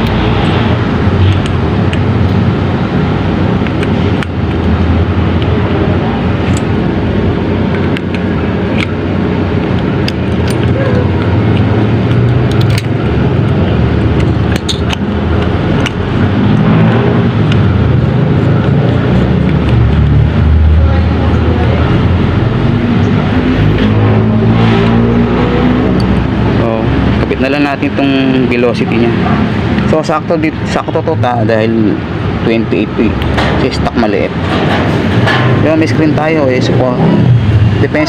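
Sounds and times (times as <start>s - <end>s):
vehicle engine hum: 0.0s - 38.0s.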